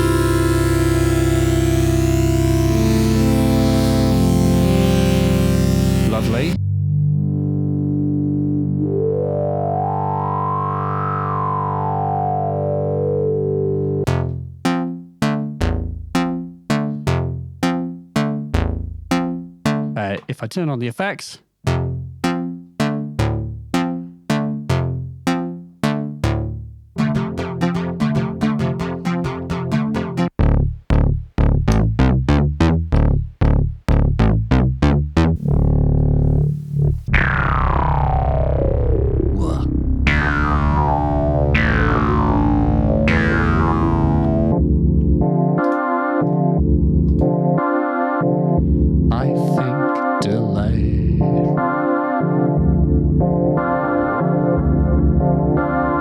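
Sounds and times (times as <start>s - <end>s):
synthesizer low note filter sweep: 0.0s - 20.2s, 21.7s - 56.0s
plucked synthesizer notes: 0.0s - 20.4s, 21.6s - 56.0s.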